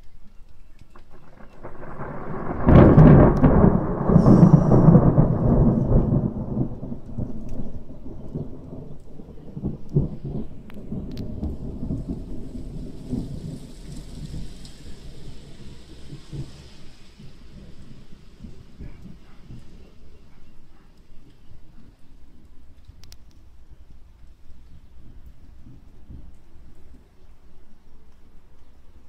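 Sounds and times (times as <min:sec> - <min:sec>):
thunder clap rolling: 0:01.0 - 0:27.2.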